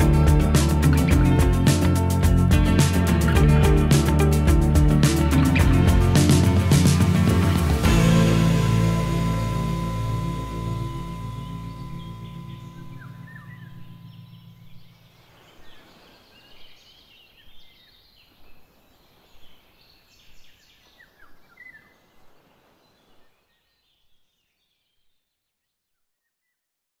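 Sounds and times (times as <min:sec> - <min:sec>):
faint outdoor hiss: 0:00.0 - 0:25.0
birds chirping: 0:00.0 - 0:25.1.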